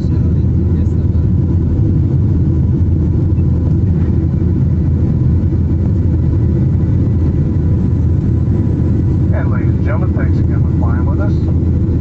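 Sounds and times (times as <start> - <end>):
aircraft engines at takeoff: 0.0 - 12.0.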